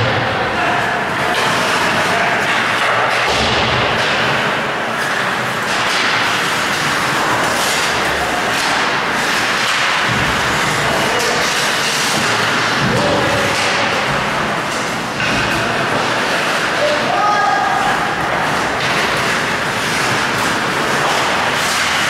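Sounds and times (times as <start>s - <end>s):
loud rink noise: 0.0s - 22.0s
sticks and puck knocking: 1.3s - 17.0s, 17.9s - 22.0s
skate blades scraping ice: 4.0s - 22.0s.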